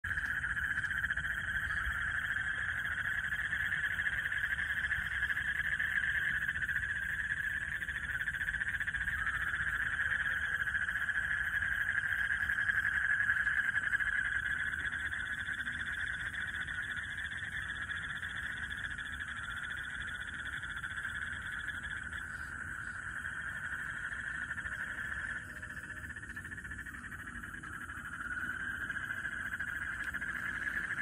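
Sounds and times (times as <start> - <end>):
faint high-pitched ticking: 0.0 - 31.0
frogs trilling: 0.0 - 31.0.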